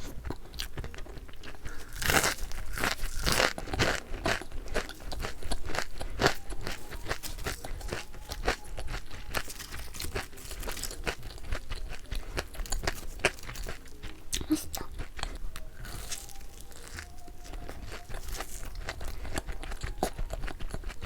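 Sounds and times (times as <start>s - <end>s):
chewing: 0.0s - 21.0s
crunchy food crunching: 0.0s - 21.0s.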